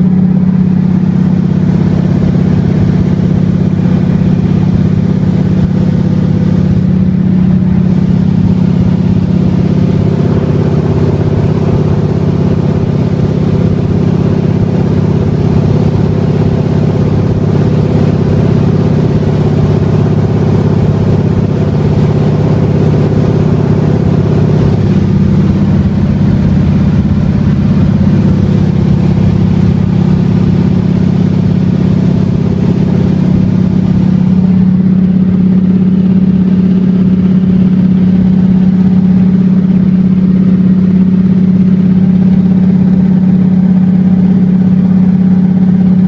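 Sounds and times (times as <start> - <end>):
small plane engine droning: 0.0 - 46.0.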